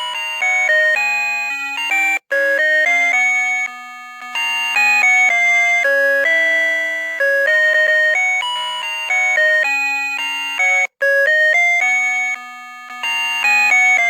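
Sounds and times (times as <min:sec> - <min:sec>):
alarm clock electronic melody: 0:00.0 - 0:14.0.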